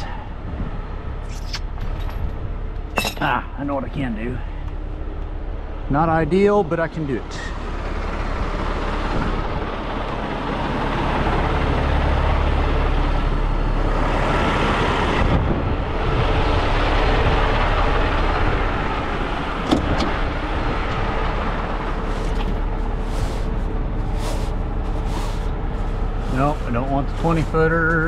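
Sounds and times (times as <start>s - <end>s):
diesel engine idling: 2.5s - 28.0s.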